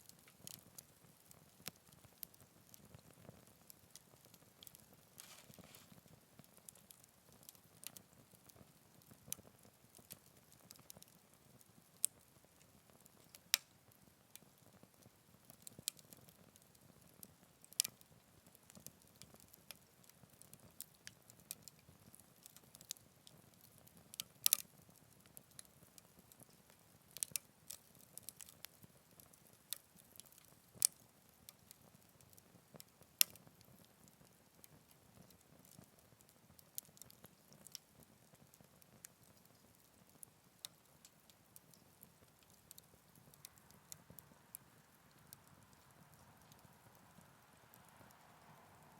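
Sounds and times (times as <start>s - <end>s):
faint low hiss: 0.0s - 48.9s
wood fire crackling: 0.0s - 48.9s.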